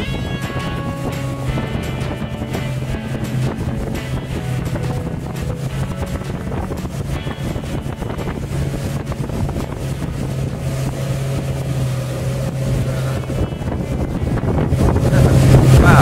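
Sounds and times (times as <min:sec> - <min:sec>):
outboard motor running: 0:00.0 - 0:16.0
wind buffeting microphone: 0:00.0 - 0:16.0.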